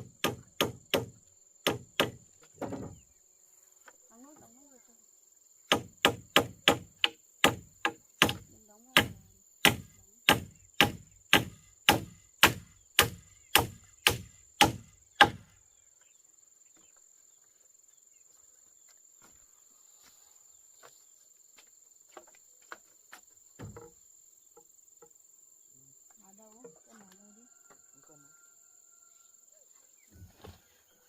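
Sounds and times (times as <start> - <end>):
high insect buzz: 0.0 - 31.0.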